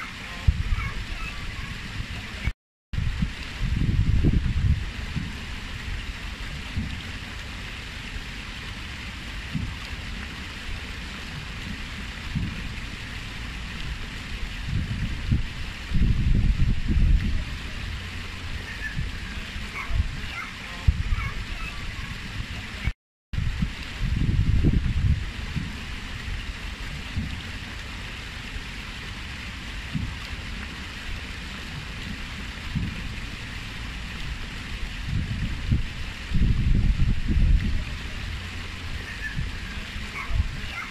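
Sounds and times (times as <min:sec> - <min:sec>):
low rumbles: 0:00.0 - 0:40.9
waterfall splashing rush: 0:00.0 - 0:40.9.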